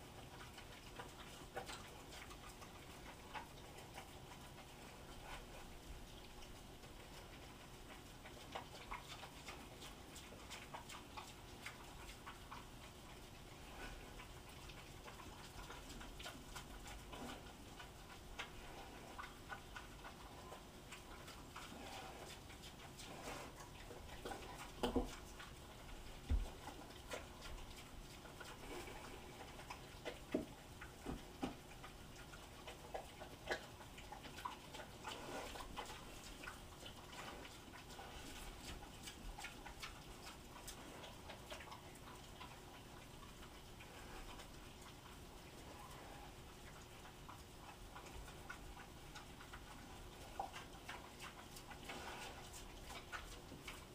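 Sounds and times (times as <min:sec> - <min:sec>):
pigs chewing: 0:00.0 - 0:53.9.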